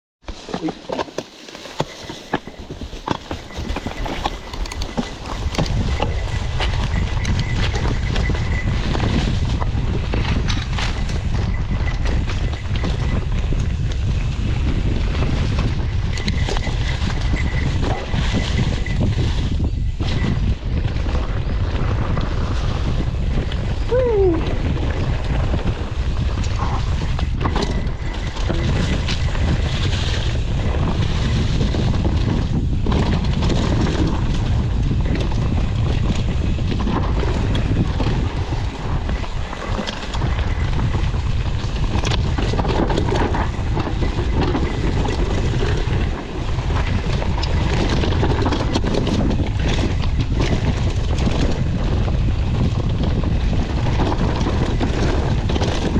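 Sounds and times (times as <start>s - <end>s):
wind buffeting microphone: 1.8s - 55.9s.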